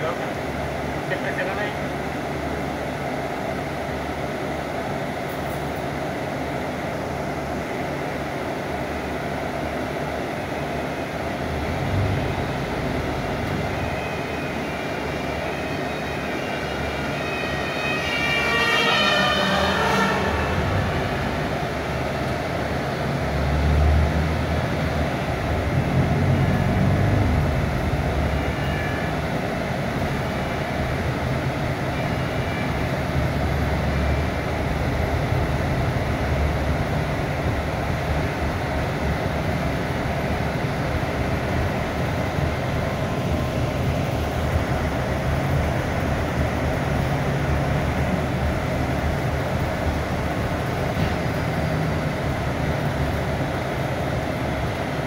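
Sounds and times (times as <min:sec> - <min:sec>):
bus diesel engine drone: 0:00.0 - 0:55.0
road noise: 0:00.0 - 0:55.0.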